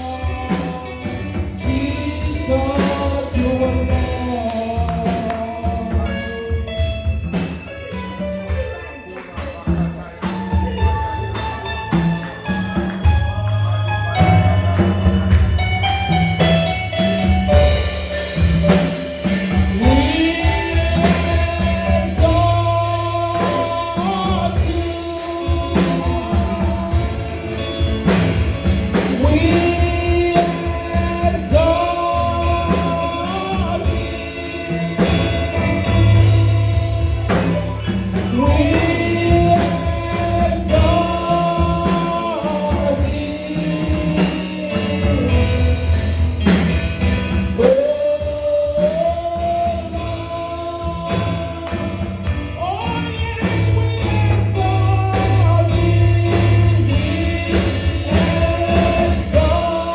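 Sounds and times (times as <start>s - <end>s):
voices singing: 0.0s - 6.8s, 8.5s - 59.9s
low bass notes: 0.0s - 8.7s, 9.5s - 59.9s
band with drum kit: 0.0s - 59.9s.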